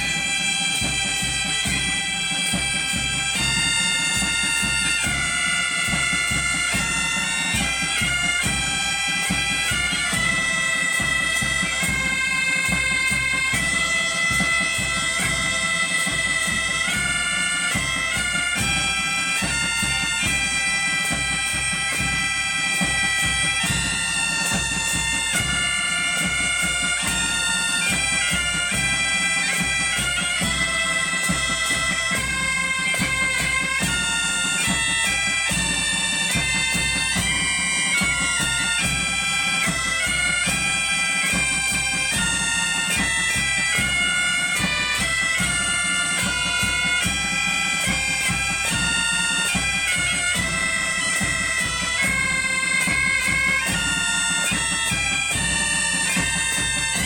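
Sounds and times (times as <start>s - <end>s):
bagpipe melody over drone: 0.0s - 57.0s.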